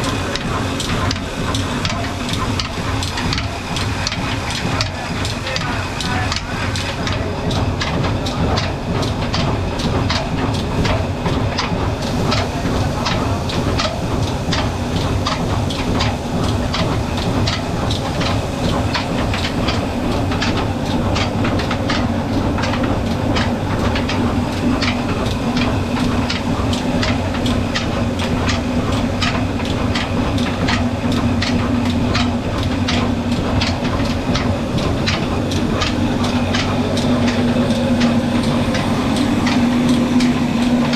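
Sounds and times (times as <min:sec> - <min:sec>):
constant low hum: 0:00.0 - 0:40.9
diesel engine knocking: 0:00.0 - 0:40.9.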